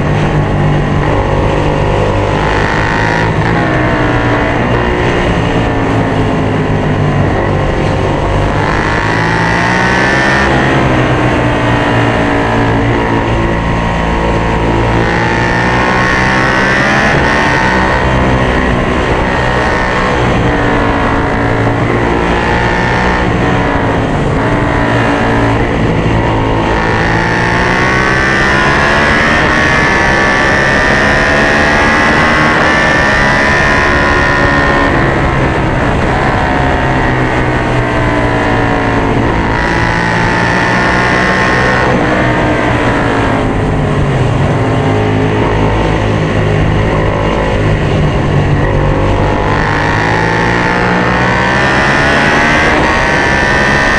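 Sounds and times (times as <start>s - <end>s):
motorcycle engine revving: 0.0s - 53.9s
wind rush: 0.0s - 53.9s.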